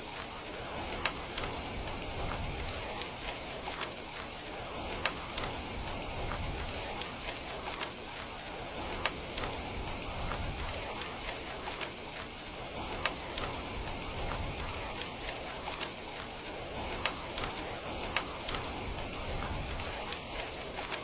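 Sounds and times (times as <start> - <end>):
sharp ticks and pops: 0.0 - 21.0
steady rain hiss: 0.0 - 21.0.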